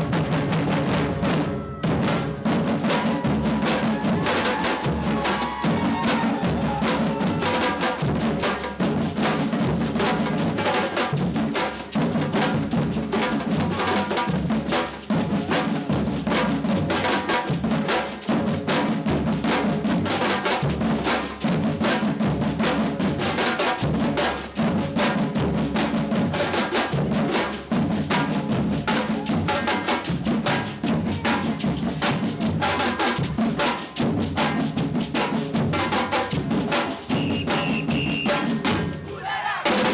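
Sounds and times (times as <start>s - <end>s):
samba percussion band drumming: 0.0s - 39.9s.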